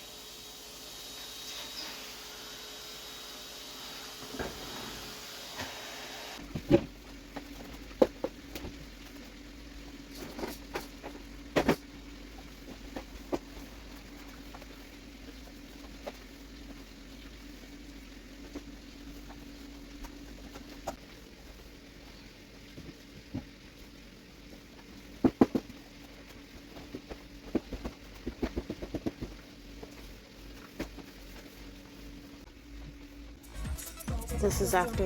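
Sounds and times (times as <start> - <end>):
faint steady hum: 6.3 - 35.0.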